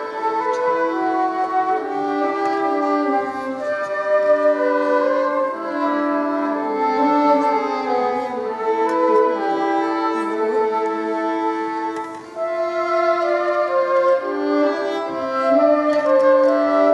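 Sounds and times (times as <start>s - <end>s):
flute: 0.0s - 16.9s
violin: 0.0s - 16.9s.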